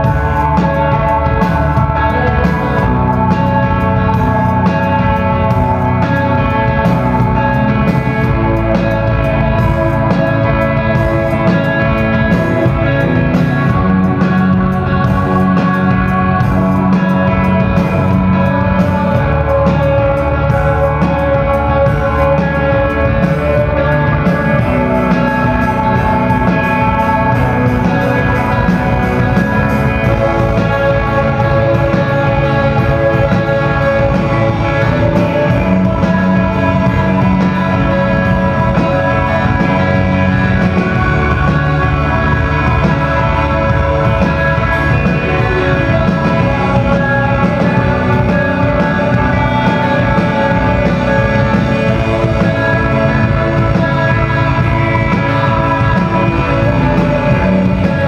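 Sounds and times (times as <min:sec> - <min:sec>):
rock band playing loudly: 0:00.0 - 0:58.0.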